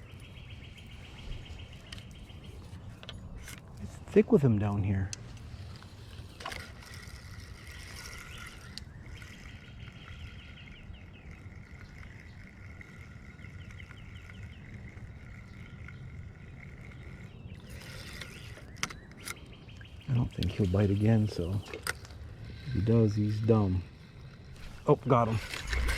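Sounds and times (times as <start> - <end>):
light wind rumble: 0.0 - 25.9
spinning reel whine with ticks: 4.8 - 25.9.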